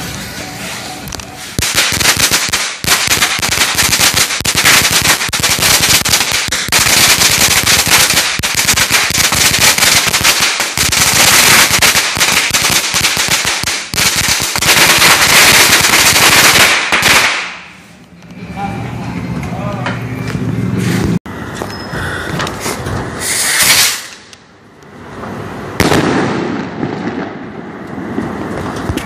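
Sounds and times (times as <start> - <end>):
firecrackers going off: 0.0 - 18.0, 22.3 - 29.0.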